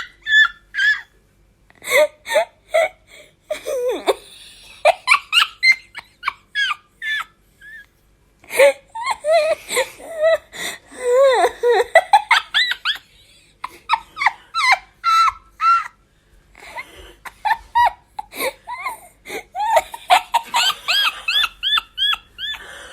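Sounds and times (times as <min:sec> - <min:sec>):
person squealing laughter: 0:00.0 - 0:01.1, 0:03.5 - 0:07.8, 0:08.5 - 0:16.0, 0:16.6 - 0:22.8.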